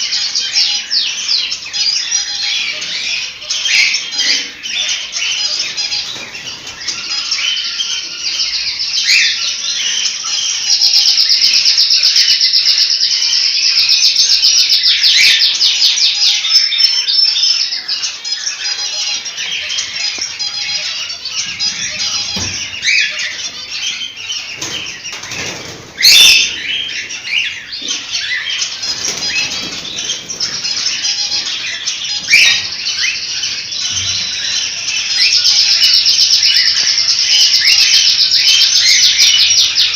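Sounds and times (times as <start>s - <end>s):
cockatiels chirping and calling: 0.0s - 39.9s.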